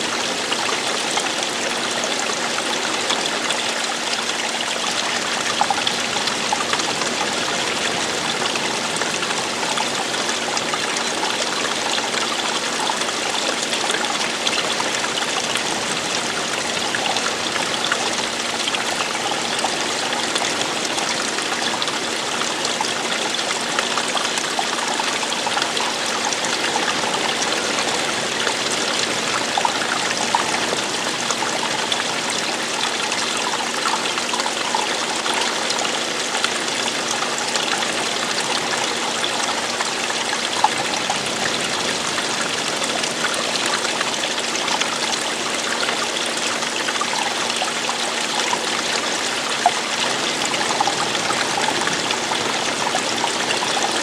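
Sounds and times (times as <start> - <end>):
water splashing over rocks: 0.0 - 54.0.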